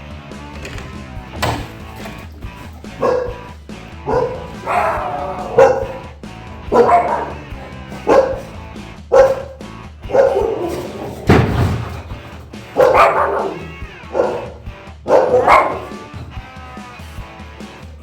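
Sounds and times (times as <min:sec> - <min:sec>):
dog barking sharply: 0:01.4 - 0:16.4.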